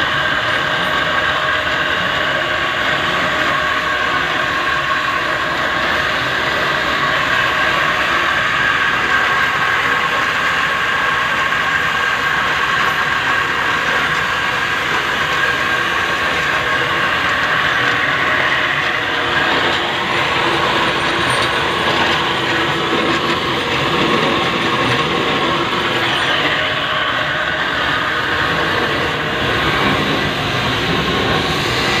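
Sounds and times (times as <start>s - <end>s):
boring machine whine and clatter: 0.0s - 32.0s.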